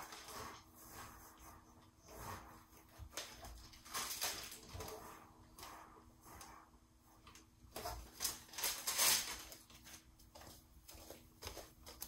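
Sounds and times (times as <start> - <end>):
stuffing rustling inside balloon: 0.0 - 12.0.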